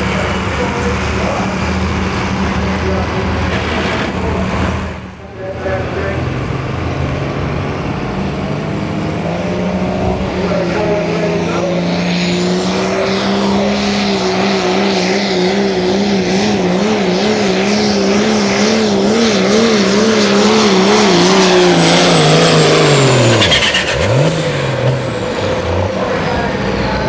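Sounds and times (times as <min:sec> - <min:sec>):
truck engine running hard: 0:00.0 - 0:27.0.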